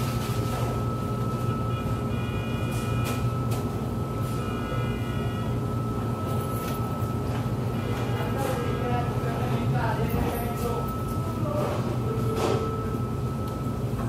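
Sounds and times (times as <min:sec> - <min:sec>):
faint steady whine: 0:00.0 - 0:14.0
low mechanical hum: 0:00.0 - 0:14.0.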